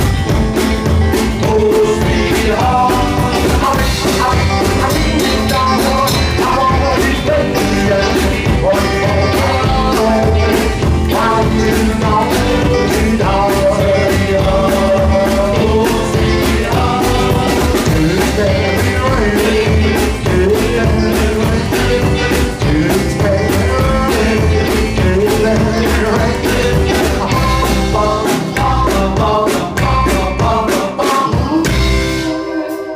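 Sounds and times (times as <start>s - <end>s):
drums: 0.0s - 32.9s
rockabilly band playing live: 0.0s - 32.9s
sung vocals: 0.0s - 32.9s.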